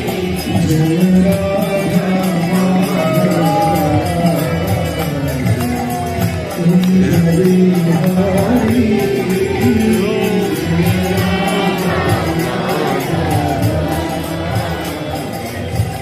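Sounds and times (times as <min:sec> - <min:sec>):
jingling percussion beat: 0:00.0 - 0:16.0
voices chanting a mantra: 0:00.0 - 0:16.0.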